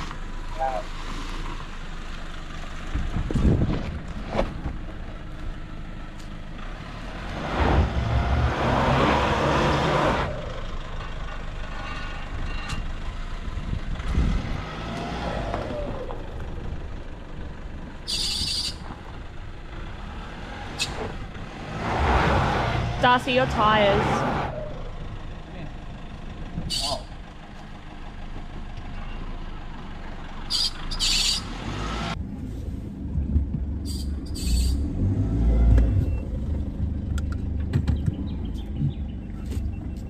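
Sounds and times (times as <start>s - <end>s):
truck engine revving under load: 6.5s - 40.0s.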